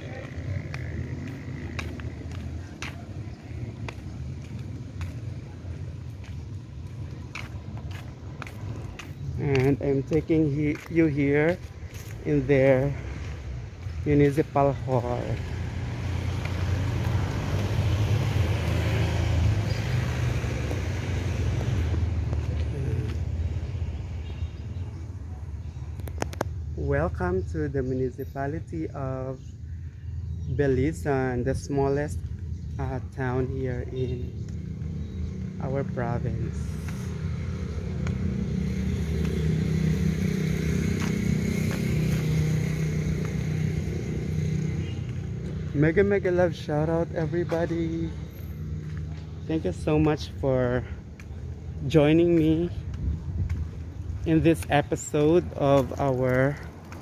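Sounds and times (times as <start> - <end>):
vehicle engine low rumble: 0.0 - 57.0.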